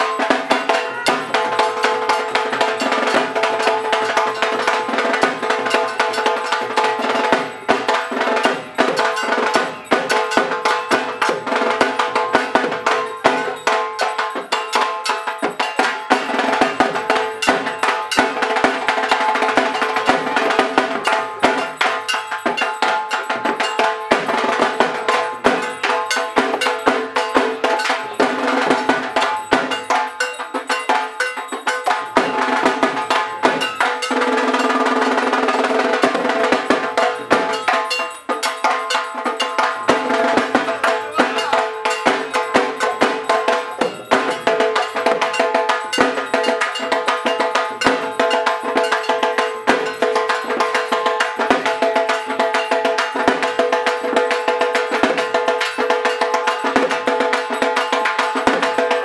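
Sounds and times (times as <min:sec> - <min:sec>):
barrel drums beaten fast: 0:00.0 - 0:59.0.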